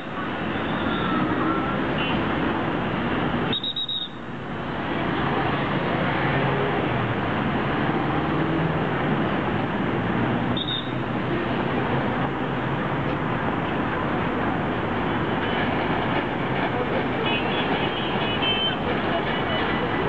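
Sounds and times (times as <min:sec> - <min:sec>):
cars and buses passing: 0:00.0 - 0:20.0.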